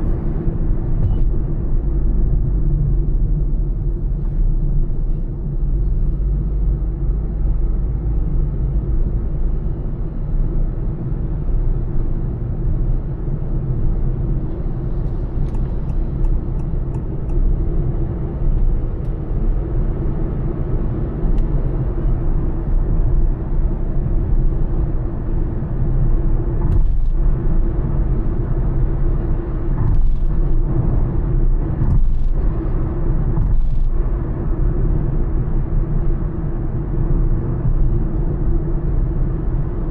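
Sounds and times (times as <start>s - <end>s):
engine and tyre rumble: 0.0s - 39.9s.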